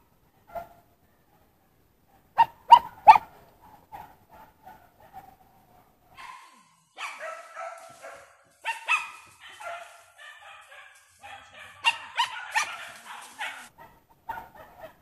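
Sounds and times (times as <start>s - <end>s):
hunting dogs barking and yelping: 0.2s - 15.0s.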